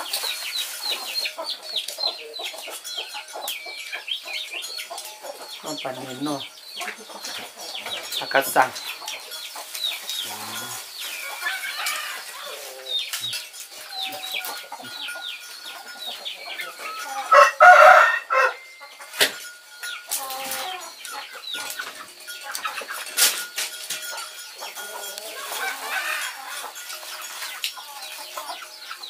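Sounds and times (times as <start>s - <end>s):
chicken clucking: 0.0s - 29.0s
chicks peeping: 0.0s - 29.0s.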